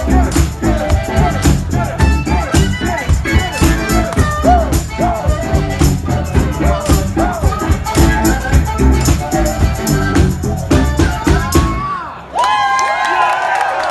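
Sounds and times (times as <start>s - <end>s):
amplified harmonica: 0.0s - 11.8s
blues-rock band music: 0.0s - 11.9s
steady drum beat: 0.0s - 12.0s.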